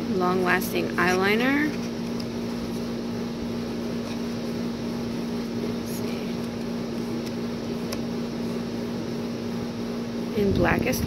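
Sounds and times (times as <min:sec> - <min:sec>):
appliance humming: 0:00.0 - 0:11.0.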